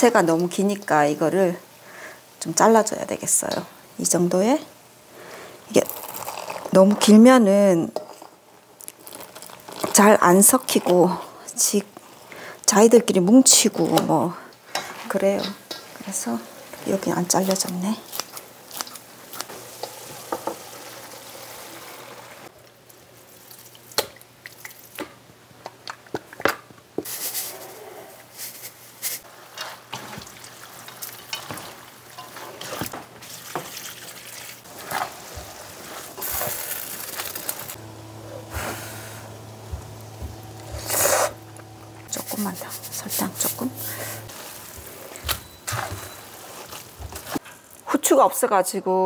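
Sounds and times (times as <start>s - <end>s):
soft sizzle: 0.0s - 25.4s, 27.0s - 49.0s.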